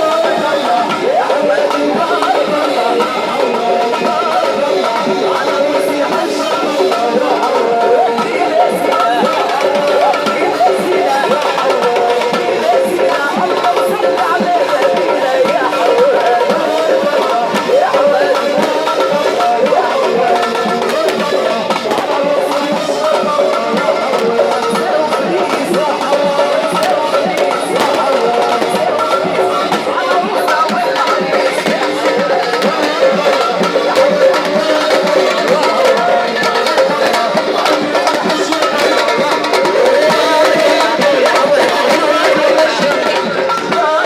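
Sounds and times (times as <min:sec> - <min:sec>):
hand drum rhythm: 0:00.0 - 0:44.0.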